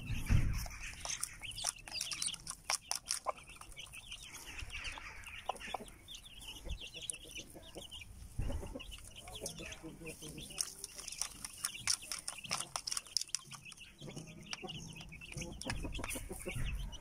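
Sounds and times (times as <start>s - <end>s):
beaks pecking plastic plate: 0.0s - 17.0s
chicks peeping: 0.0s - 17.0s.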